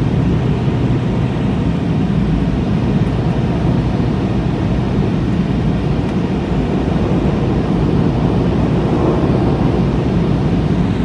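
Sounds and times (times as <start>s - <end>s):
airflow rushing over fuselage: 0.0s - 11.0s
jet engines droning: 0.0s - 11.0s.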